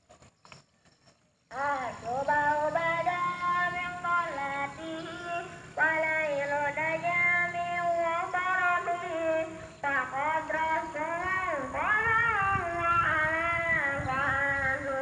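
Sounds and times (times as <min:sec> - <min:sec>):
high voice singing: 0:01.5 - 0:15.0.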